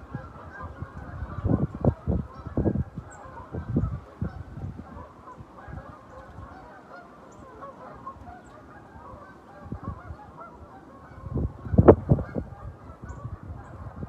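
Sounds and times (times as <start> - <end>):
geese honking: 0.0 - 14.0
wind buffeting the microphone: 0.0 - 14.0.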